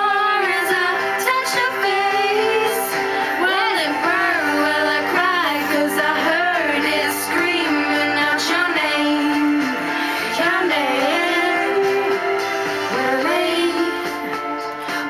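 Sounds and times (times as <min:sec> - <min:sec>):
musical accompaniment: 0:00.0 - 0:15.0
women singing pop ballad: 0:00.0 - 0:15.0.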